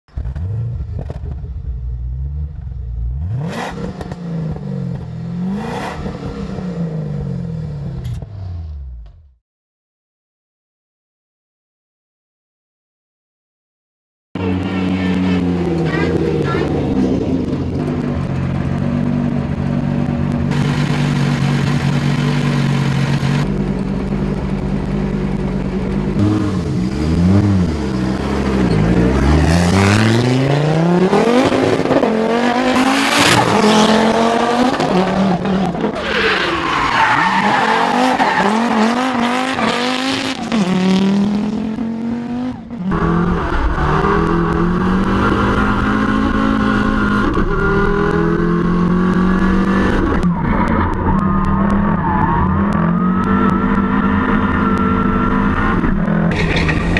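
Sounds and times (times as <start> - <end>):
rally car engine revving: 0.1 - 9.2, 14.4 - 56.9.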